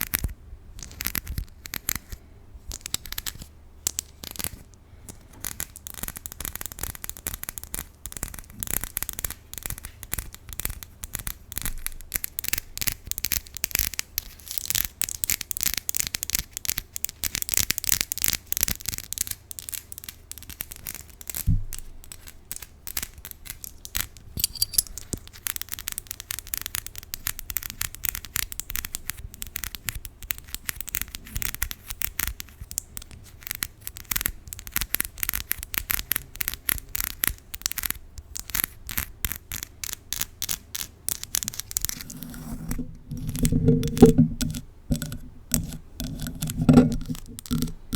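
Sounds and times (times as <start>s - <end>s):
nails scratching and tapping: 0.0s - 47.9s.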